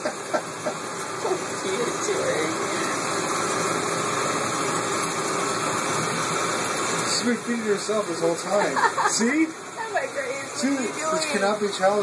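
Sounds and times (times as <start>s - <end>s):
steady fan-like rushing noise: 0.0s - 12.0s.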